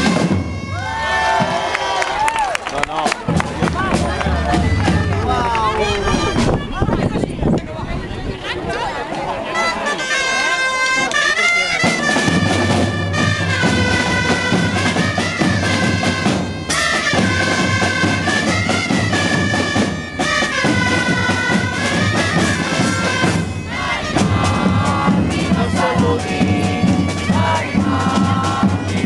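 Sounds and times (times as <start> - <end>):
reedy wind instrument melody: 0.0 - 1.8, 3.2 - 7.4, 9.4 - 29.0
drum band beat: 0.0 - 2.3, 2.9 - 6.9, 11.7 - 29.0.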